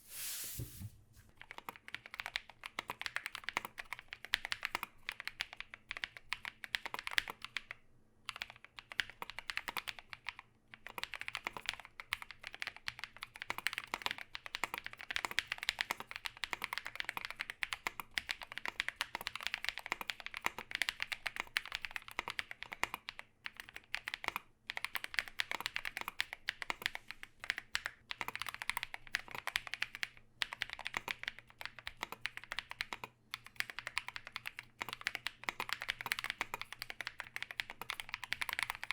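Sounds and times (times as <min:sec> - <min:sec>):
mechanical keyboard typing: 0:01.4 - 0:38.9.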